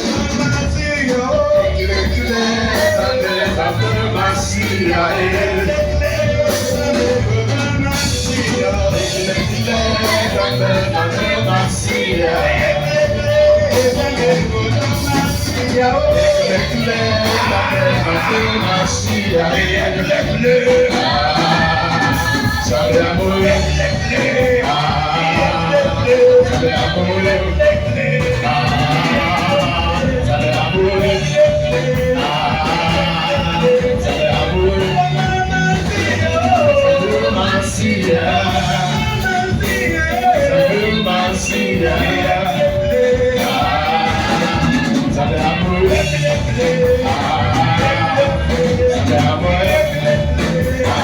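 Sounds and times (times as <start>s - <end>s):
praise band playing: 0.0s - 51.0s
voices singing: 0.0s - 51.0s.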